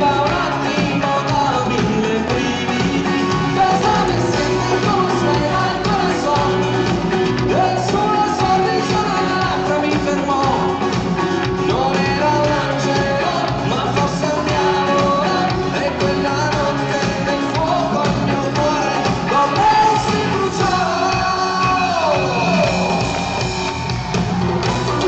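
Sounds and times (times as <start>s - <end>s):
band playing pop song: 0.0s - 25.0s
person singing: 0.0s - 25.0s.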